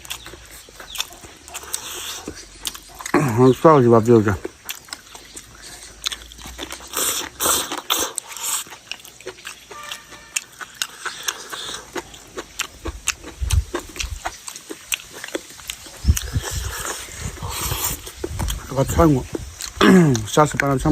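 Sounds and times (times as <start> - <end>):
person chewing and crunching food: 0.0 - 20.9.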